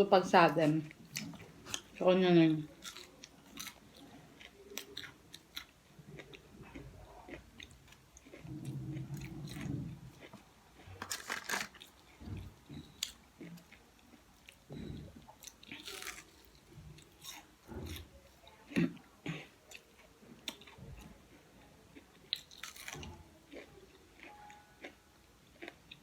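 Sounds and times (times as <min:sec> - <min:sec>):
chewing and crunching food: 0:00.5 - 0:26.0.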